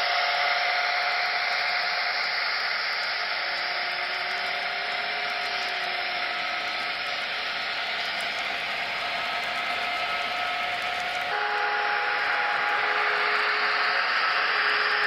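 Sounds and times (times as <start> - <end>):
model train cars rolling: 0.0 - 15.0
steady tones from running gear: 0.0 - 15.0.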